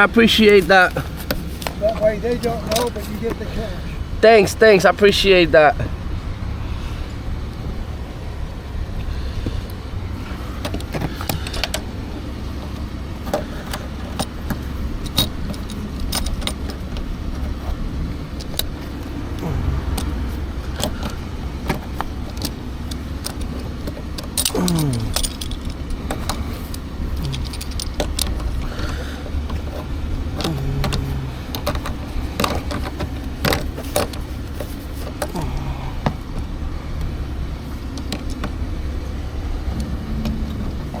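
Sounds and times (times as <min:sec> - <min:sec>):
metal tools clinking and rattling: 0:00.0 - 0:05.8, 0:09.0 - 0:36.7
low rumble of vehicles: 0:00.0 - 0:41.0.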